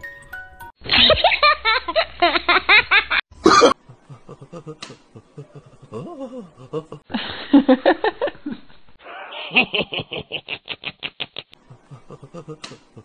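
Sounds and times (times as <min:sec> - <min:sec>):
laughter: 0:00.8 - 0:03.2, 0:03.9 - 0:13.0.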